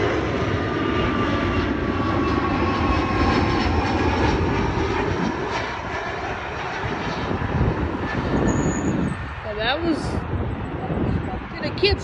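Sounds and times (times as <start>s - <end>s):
faint engine whine: 0.0s - 12.0s
jet engines rumbling: 0.0s - 12.0s.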